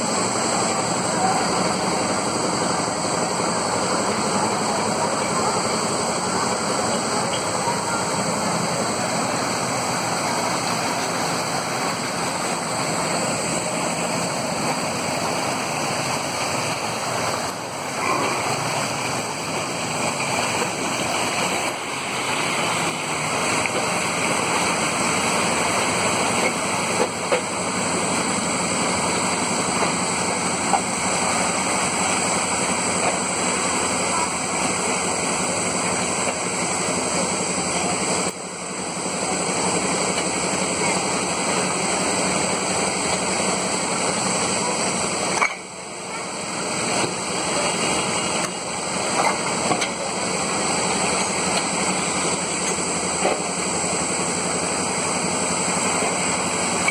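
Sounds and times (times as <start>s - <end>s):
flowing water rushing: 0.0s - 56.9s.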